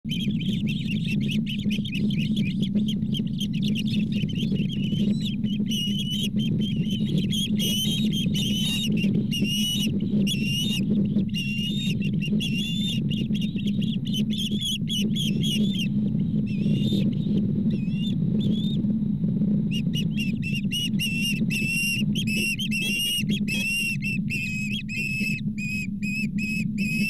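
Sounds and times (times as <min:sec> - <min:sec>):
ospreys chirping: 0:00.1 - 0:18.8, 0:19.7 - 0:27.0
wind rumble on microphone: 0:00.1 - 0:27.0.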